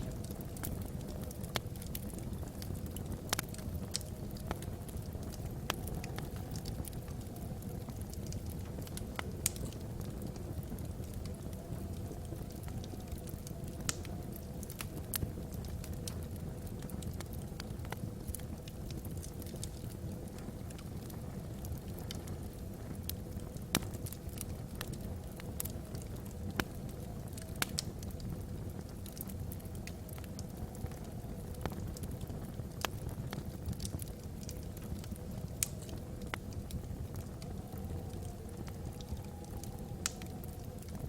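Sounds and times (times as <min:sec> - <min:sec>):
fire rumbling: 0:00.0 - 0:41.0
wood crackling and popping: 0:00.0 - 0:41.0.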